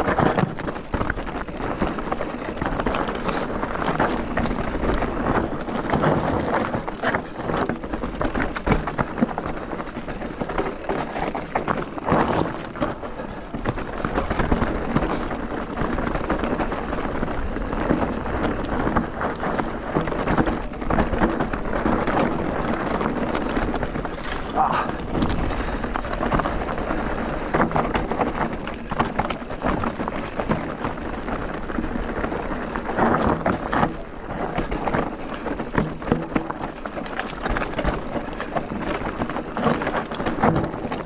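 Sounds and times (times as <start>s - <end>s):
bike knocks and rattles: 0.0s - 41.0s.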